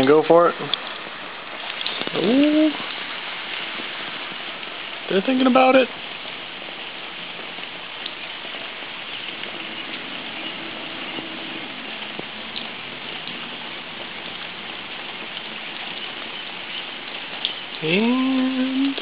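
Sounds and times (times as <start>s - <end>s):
floodwater running: 0.0s - 19.0s
rain falling: 0.0s - 19.0s.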